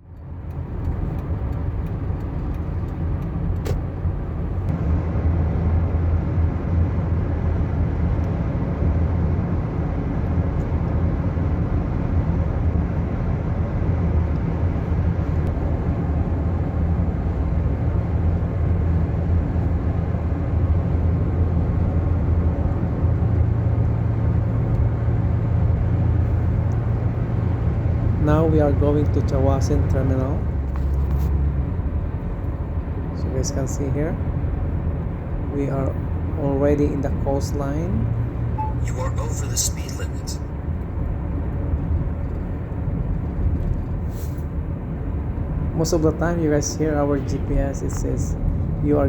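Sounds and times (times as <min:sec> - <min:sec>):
road rumble inside moving car: 0:00.0 - 0:49.0.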